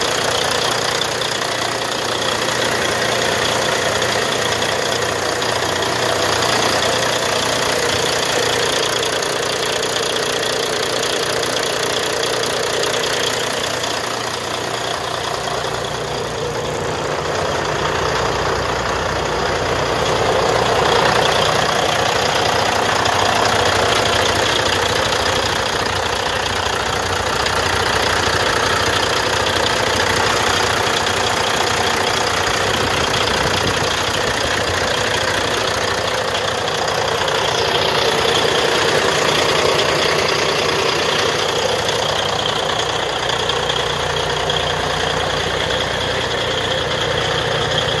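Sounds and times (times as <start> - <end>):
truck diesel engine idling: 0.0 - 48.0.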